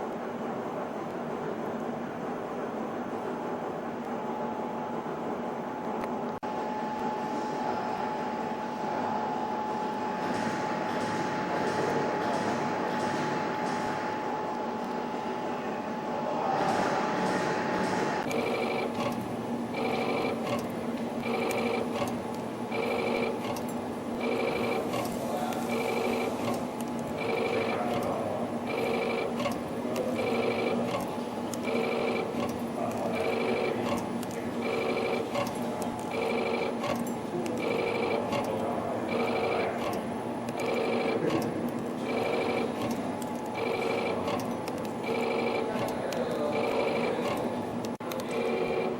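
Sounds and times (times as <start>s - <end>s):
steady machine hum: 0.0s - 48.9s
ring forming machine cycling: 6.4s - 48.9s.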